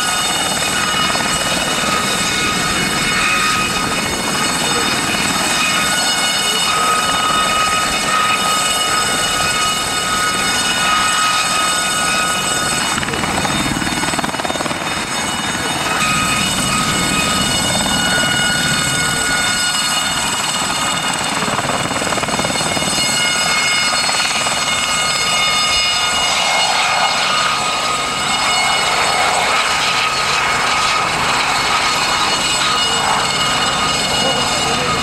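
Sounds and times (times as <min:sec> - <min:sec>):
helicopter rotor noise: 0:00.0 - 0:35.0
helicopter turbine whine: 0:00.0 - 0:35.0.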